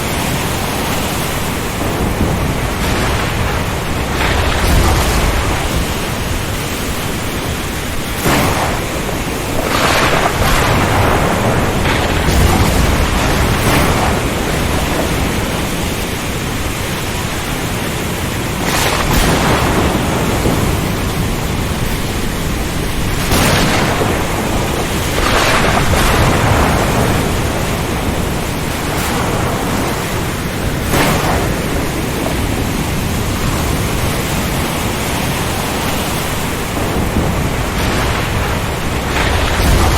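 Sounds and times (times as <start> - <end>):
low rumbles: 0.0 - 39.9
wind and rain roaring: 0.0 - 39.9.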